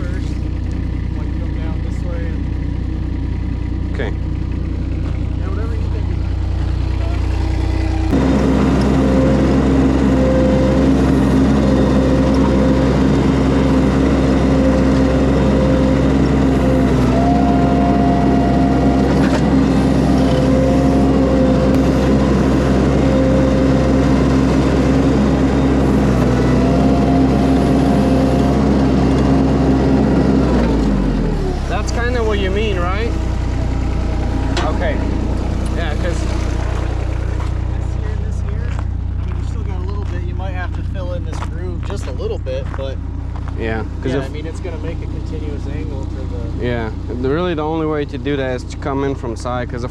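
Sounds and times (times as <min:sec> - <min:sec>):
hydraulic whine: 0:00.0 - 0:49.8
skid steer engine running: 0:00.0 - 0:49.9.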